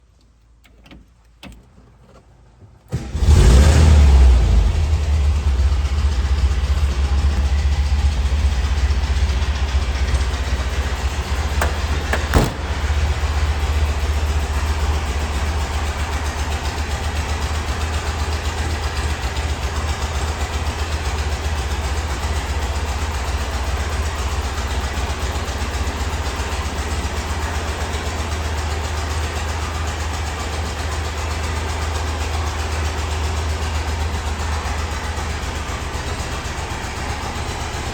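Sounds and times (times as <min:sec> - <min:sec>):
car engine starting and idling: 0:02.8 - 0:37.9.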